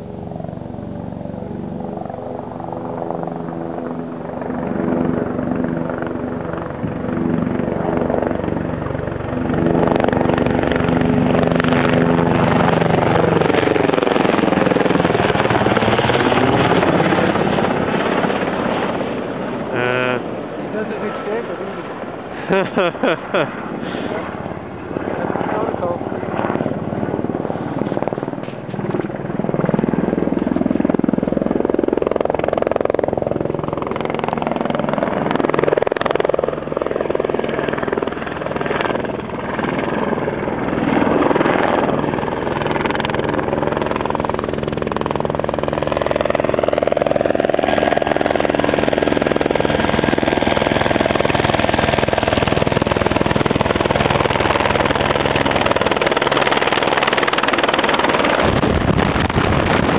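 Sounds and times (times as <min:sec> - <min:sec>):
helicopter rotor chop and engine: 0:00.0 - 0:59.9.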